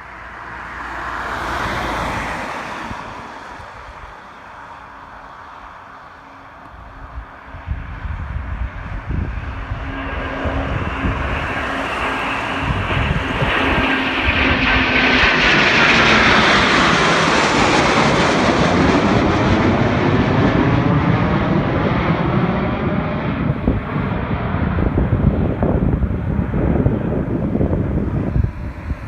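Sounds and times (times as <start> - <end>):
military jet passing: 0.0 - 29.0.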